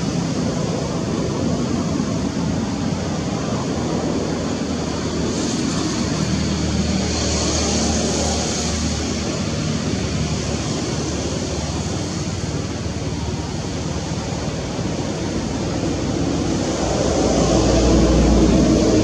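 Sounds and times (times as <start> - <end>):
hiss: 0.0 - 19.0.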